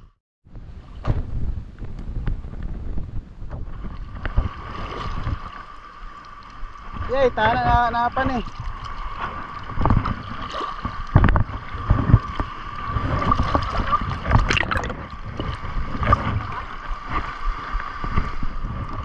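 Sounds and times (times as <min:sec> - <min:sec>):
low water splashes: 0:00.5 - 0:19.0
seawater sloshing and gurgling: 0:03.5 - 0:19.0.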